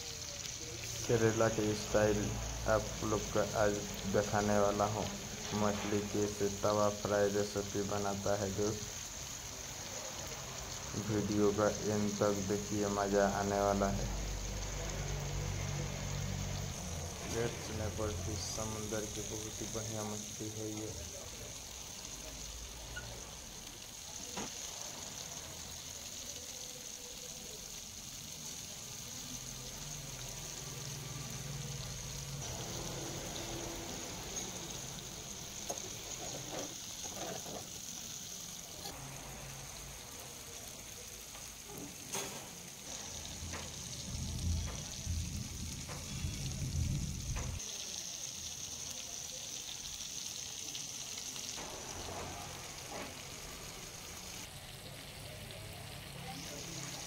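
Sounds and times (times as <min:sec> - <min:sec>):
fish sizzling in oil: 0:00.0 - 0:57.0.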